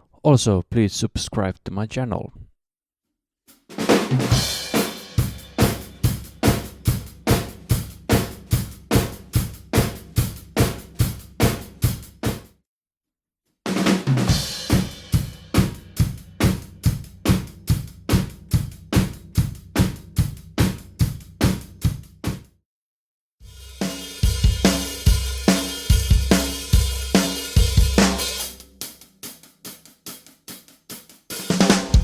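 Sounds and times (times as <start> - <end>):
drum kit playing a beat: 3.5 - 12.5, 13.7 - 22.5, 23.4 - 32.0.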